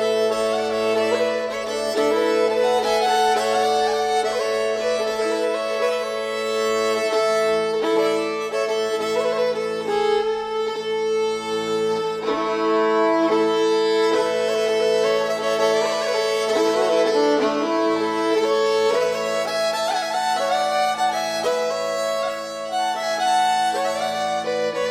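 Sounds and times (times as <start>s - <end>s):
folk tune on bowed strings: 0.0s - 24.9s.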